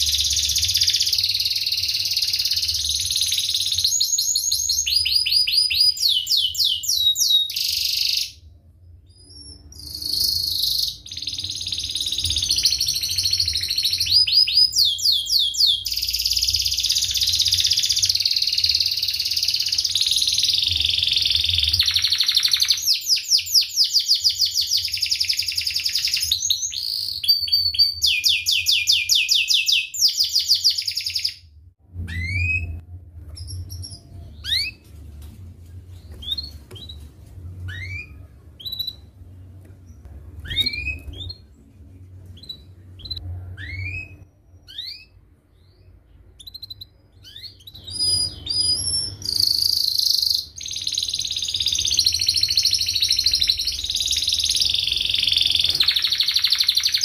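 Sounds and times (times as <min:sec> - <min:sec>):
canary singing trills: 0:00.0 - 0:31.4, 0:37.6 - 0:39.3, 0:42.4 - 0:57.0.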